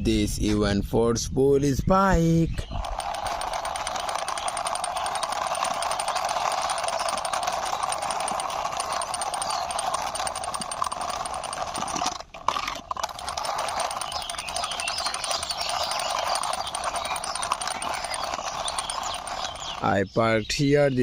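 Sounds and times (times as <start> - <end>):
plastic toy wheels rolling and rattling: 2.6 - 20.0.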